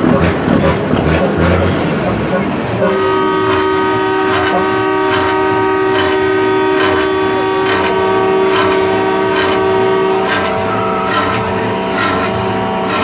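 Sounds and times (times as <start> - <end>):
diesel engine running: 0.0 - 13.0
truck air horn: 0.1 - 13.0.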